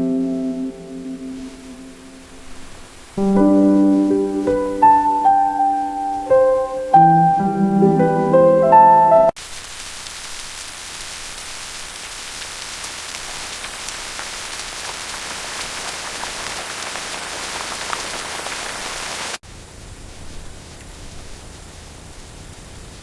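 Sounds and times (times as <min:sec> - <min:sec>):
steady rain: 0:00.0 - 0:08.0, 0:09.3 - 0:23.0.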